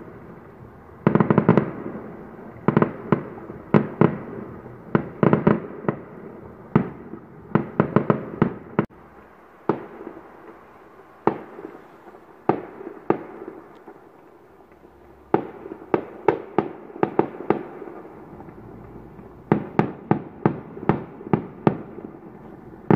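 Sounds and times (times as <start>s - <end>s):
background rumble: 0.0s - 22.9s
fireworks bangs: 0.0s - 22.9s.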